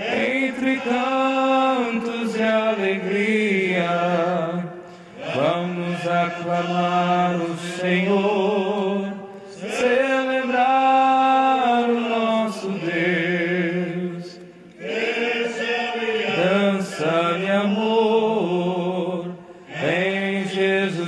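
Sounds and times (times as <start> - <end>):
voices singing a hymn: 0.0 - 21.0.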